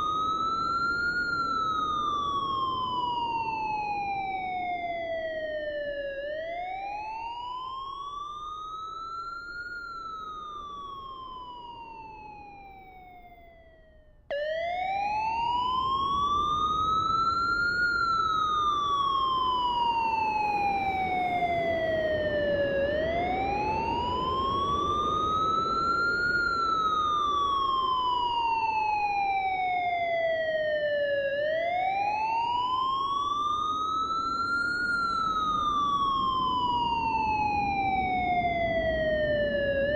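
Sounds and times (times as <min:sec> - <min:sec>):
wailing siren: 0:00.0 - 0:39.9.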